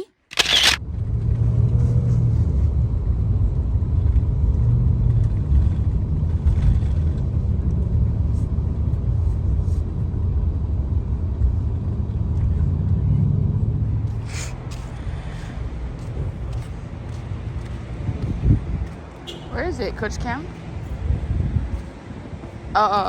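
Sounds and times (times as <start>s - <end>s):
vehicle rumble from inside: 0.4s - 23.0s.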